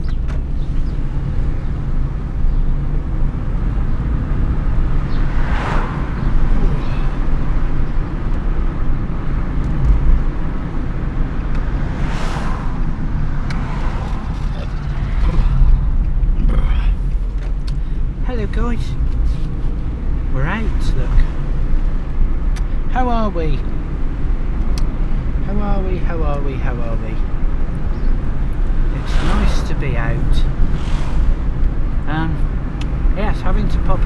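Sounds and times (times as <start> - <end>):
road and engine rumble: 0.0 - 34.0.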